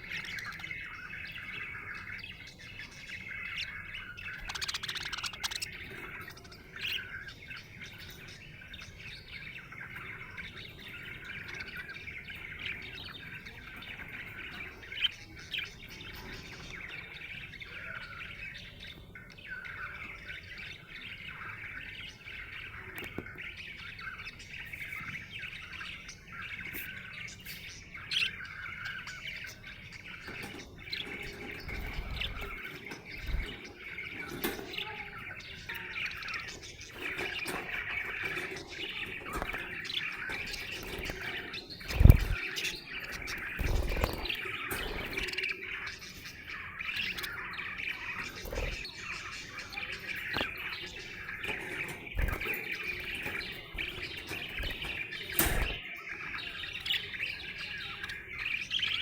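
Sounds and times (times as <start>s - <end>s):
budgerigar chirping and warbling: 0.0s - 15.4s, 24.0s - 59.0s.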